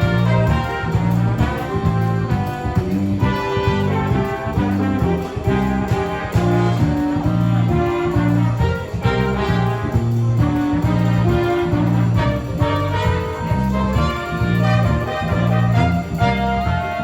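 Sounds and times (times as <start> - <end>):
repeating bass line: 0.0 - 17.0
trumpets and trombones playing: 0.0 - 17.0.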